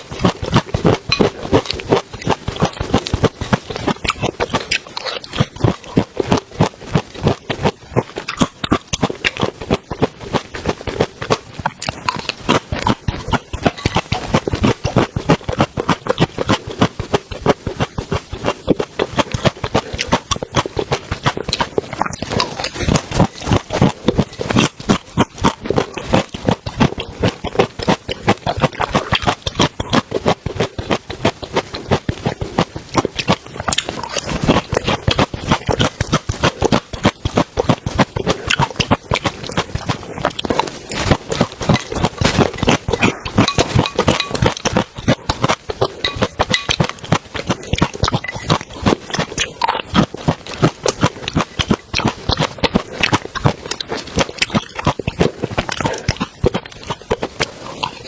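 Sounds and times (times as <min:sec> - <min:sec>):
wet chewing and lip-smacking: 0:00.0 - 0:58.0.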